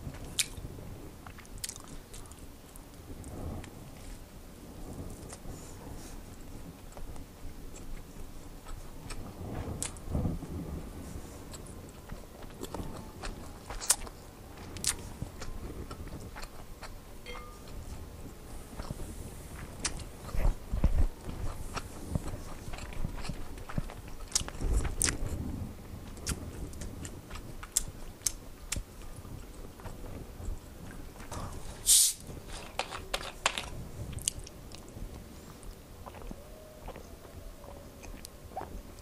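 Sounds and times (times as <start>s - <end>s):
close chewing with mouth clicks: 0.0s - 4.2s, 4.9s - 18.1s, 18.7s - 39.0s.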